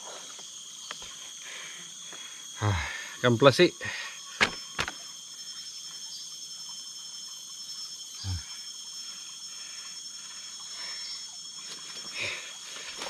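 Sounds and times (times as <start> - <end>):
shrill insect drone: 0.0 - 13.0.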